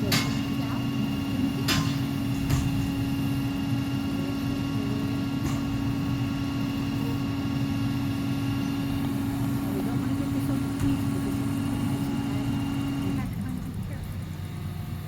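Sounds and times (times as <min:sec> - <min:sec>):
honey bees buzzing: 0:00.0 - 0:14.1.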